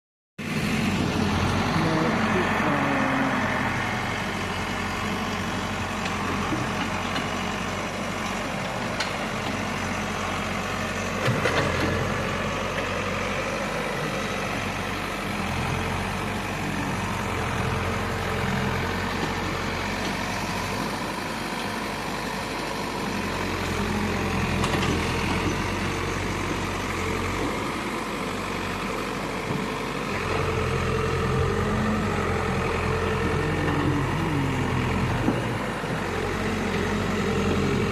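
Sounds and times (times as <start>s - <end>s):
diesel excavator engine running: 0.4s - 37.9s.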